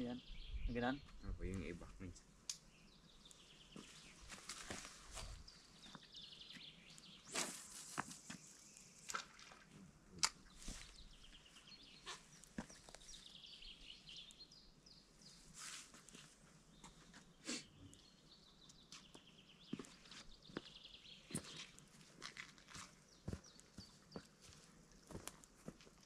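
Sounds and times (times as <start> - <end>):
birds chirping: 0.0 - 25.7.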